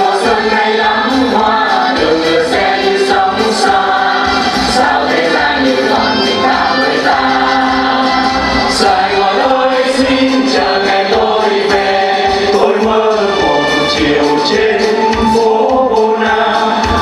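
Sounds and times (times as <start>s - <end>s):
choir singing: 0.0s - 17.0s
instrumental music with beat: 0.0s - 17.0s.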